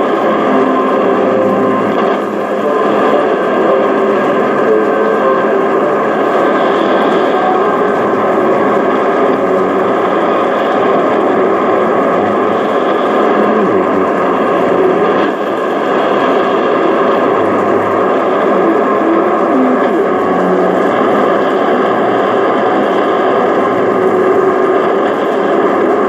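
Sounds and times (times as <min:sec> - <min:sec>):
radio static and distorted signal: 0:00.0 - 0:26.0.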